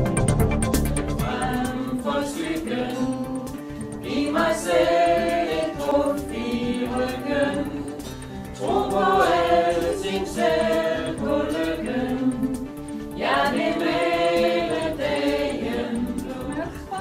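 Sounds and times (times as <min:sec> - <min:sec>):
beat-driven music: 0:00.0 - 0:17.0
choir-like voices singing held notes: 0:01.0 - 0:17.0.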